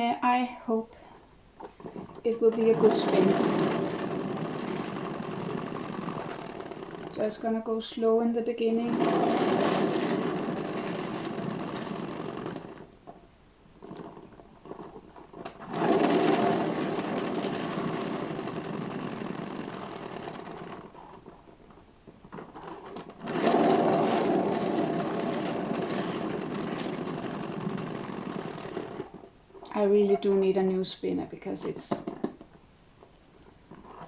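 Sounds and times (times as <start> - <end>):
motorised spinner running: 1.7 - 32.1.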